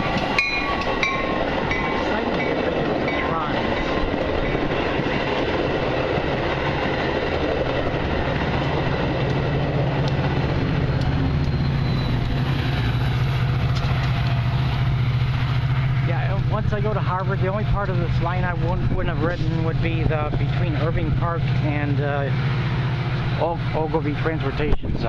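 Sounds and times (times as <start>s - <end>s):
diesel locomotive engine drone: 0.0s - 25.0s
train rolling past on rails: 0.0s - 25.0s.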